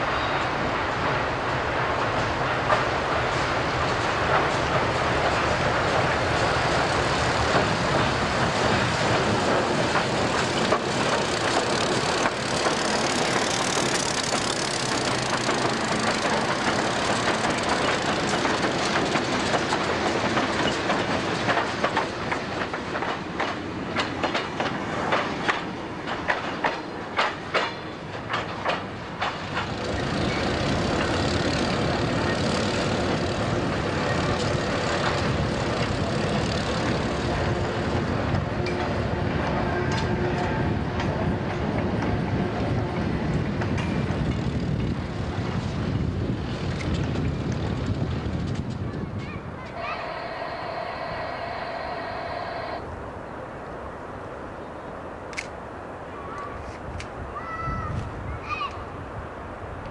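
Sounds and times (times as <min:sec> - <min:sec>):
diesel locomotives running past: 0:00.0 - 0:57.2
wheels clicking over rail joints: 0:01.1 - 0:50.4.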